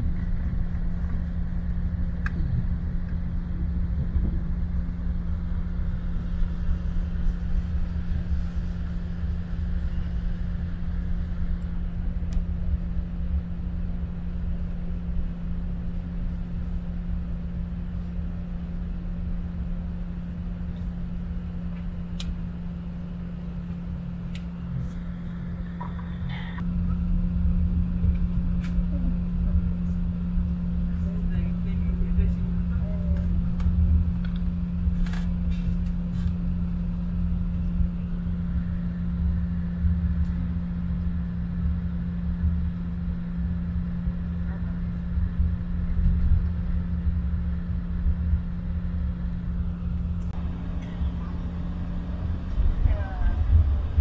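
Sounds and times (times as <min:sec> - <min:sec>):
airplane wheels rumbling on runway: 0:00.0 - 0:54.0
jet engine hum: 0:00.0 - 0:54.0.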